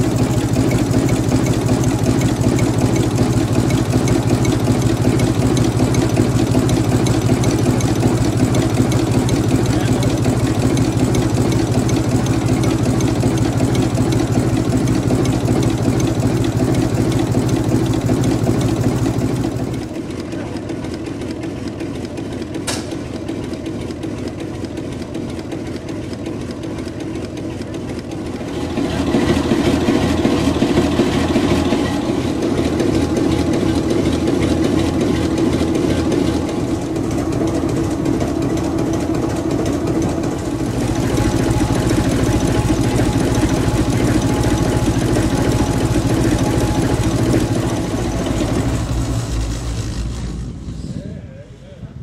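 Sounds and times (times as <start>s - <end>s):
diesel engine rhythmic beat: 0.0s - 19.9s, 28.0s - 50.2s.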